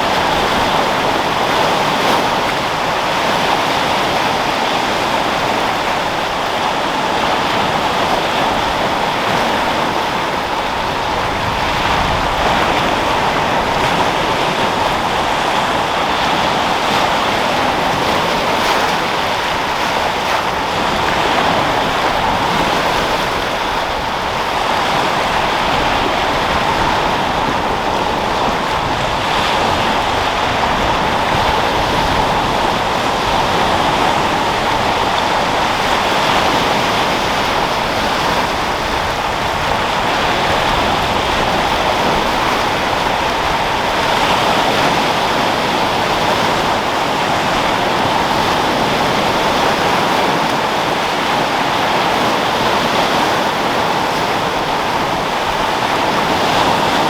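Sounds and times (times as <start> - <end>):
sea waves breaking: 0.0 - 57.0
wind: 0.0 - 57.0.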